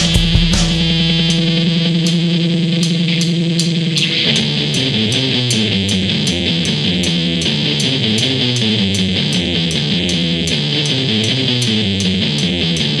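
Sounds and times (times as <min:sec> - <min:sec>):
bass guitar: 0:00.0 - 0:13.0
electric guitar: 0:00.0 - 0:13.0.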